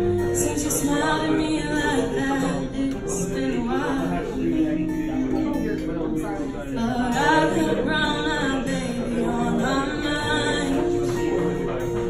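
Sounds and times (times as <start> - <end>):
woman singing into microphone: 0.0 - 12.0.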